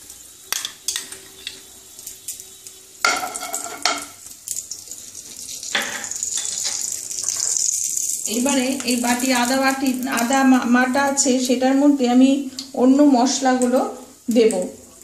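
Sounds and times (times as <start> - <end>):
ghee sizzling in hot oil: 0.0 - 15.0.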